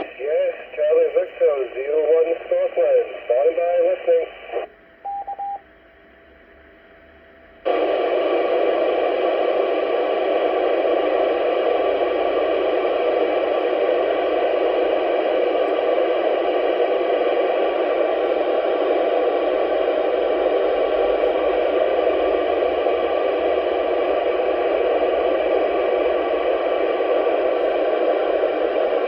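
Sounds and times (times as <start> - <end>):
radio static hiss: 0.0 - 4.7, 7.6 - 29.0.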